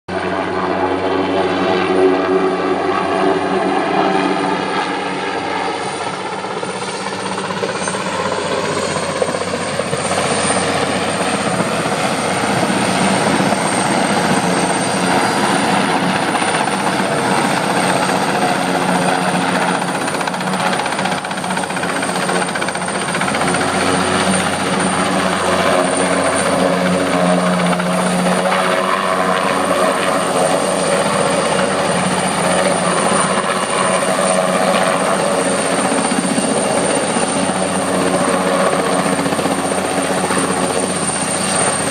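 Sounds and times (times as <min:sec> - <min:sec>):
helicopter rotor and engine: 0:00.1 - 0:41.9.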